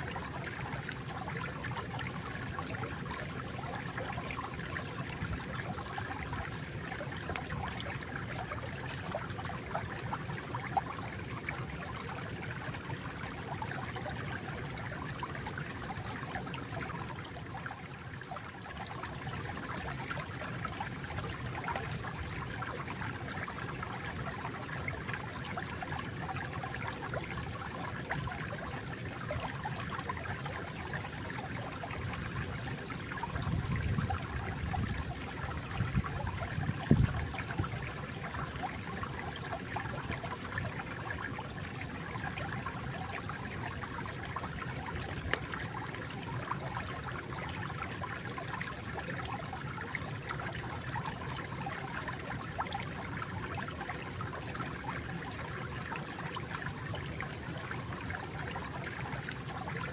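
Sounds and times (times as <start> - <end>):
stream running and trickling: 0.0 - 59.9.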